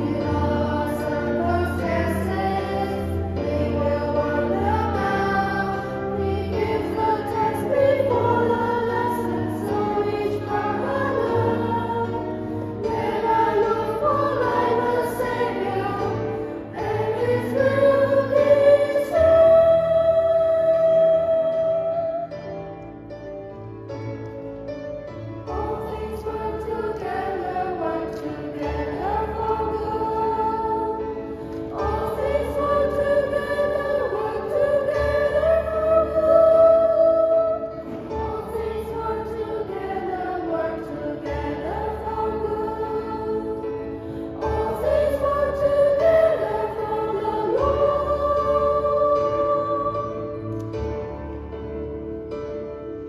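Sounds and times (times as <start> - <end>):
children's choir singing a hymn: 0.0 - 53.0
keyboard accompaniment: 0.0 - 53.0.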